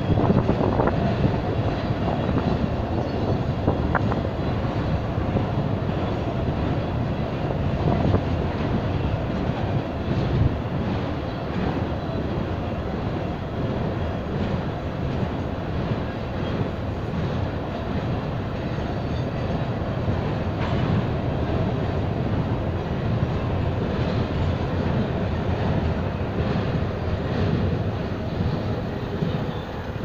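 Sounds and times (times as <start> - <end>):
freight train rumbling by: 0.0 - 30.0.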